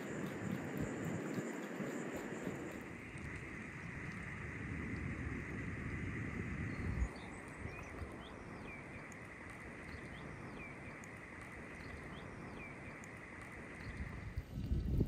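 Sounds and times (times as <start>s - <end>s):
small birds chirping: 0.0s - 15.0s
steady high hiss: 0.0s - 15.0s
wind rumbling on microphone: 0.0s - 15.0s.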